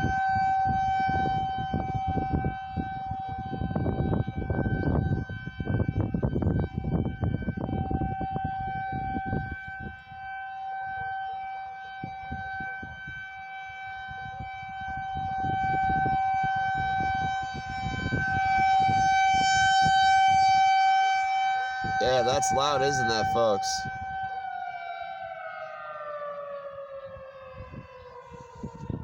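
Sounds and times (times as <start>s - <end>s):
tornado warning siren: 0.0s - 29.0s.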